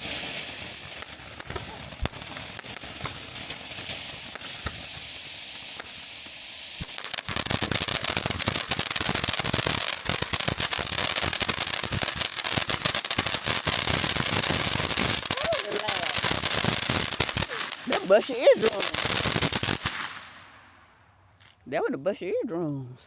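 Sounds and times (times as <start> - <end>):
firework hissing: 0.0 - 20.7
fireworks cracking and banging: 0.0 - 21.0.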